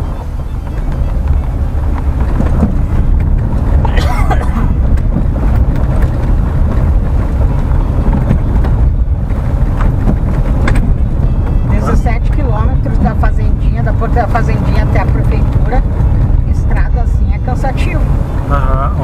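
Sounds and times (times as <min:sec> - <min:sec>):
low rumble of tyres and engine: 0:00.0 - 0:19.0.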